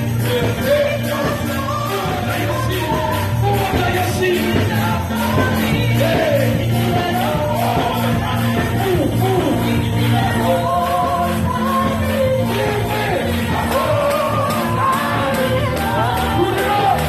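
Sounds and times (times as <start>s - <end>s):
drum kit beat: 0.0s - 17.0s
person singing through loudspeaker: 0.0s - 17.0s.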